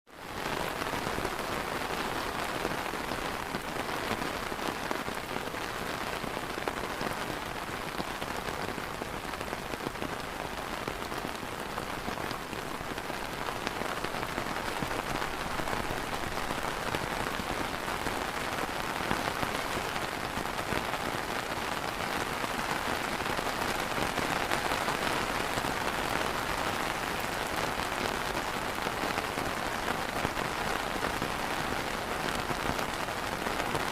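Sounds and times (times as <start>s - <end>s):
rain pattering on an umbrella: 0.1s - 33.9s.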